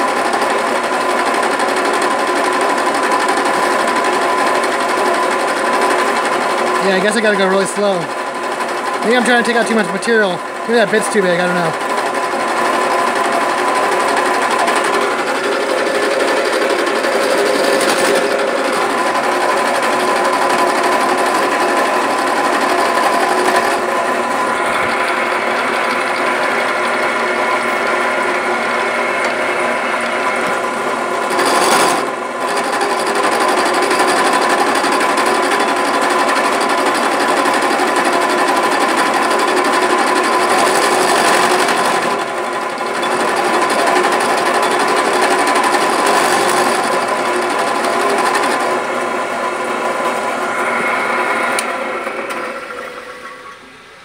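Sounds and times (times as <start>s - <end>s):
drill press motor whine: 0.0s - 54.0s.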